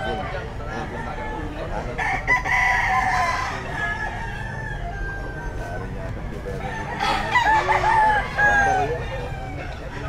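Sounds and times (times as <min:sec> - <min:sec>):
roosters crowing: 0:00.0 - 0:10.0
steady background din: 0:00.0 - 0:10.0.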